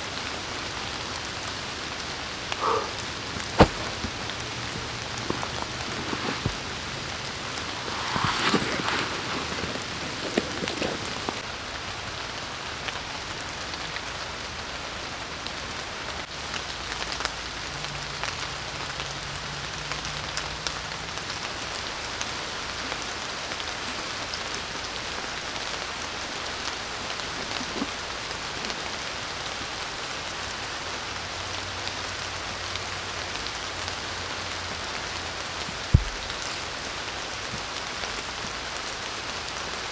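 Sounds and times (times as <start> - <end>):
rain falling on leaves: 0.0 - 39.9
rustle: 0.0 - 39.9.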